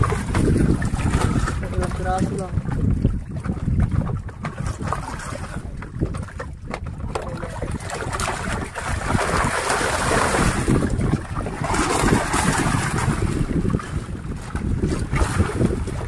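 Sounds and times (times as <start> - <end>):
water noise: 0.0 - 16.0
wind rumbling on microphone: 0.0 - 16.0.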